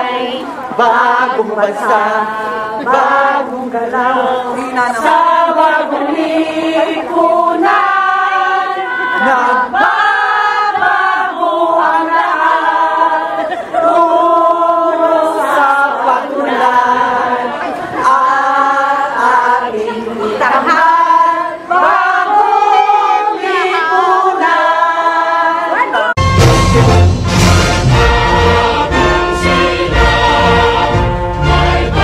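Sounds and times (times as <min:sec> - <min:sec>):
group singing in unison: 0:00.0 - 0:32.0.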